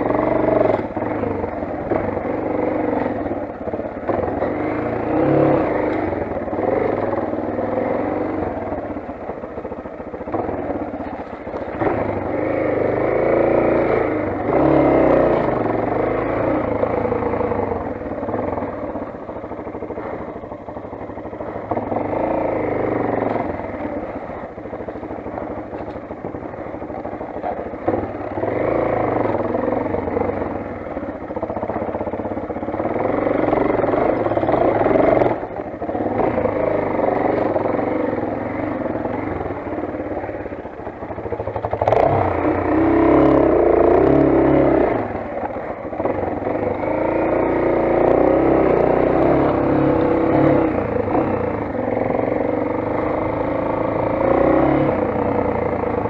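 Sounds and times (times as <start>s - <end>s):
dirt bike engine revving: 0.0s - 9.0s, 10.3s - 26.4s, 27.5s - 56.0s.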